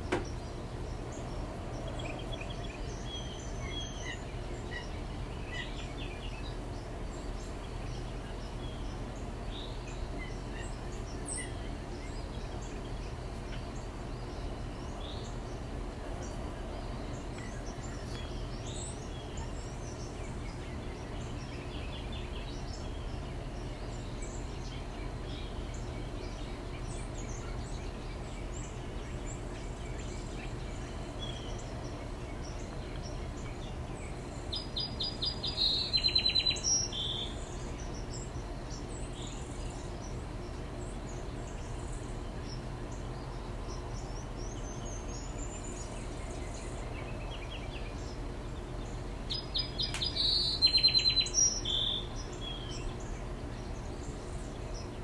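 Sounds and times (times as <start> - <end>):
songbird singing: 0.0 - 55.0
steady low hum: 0.0 - 55.0.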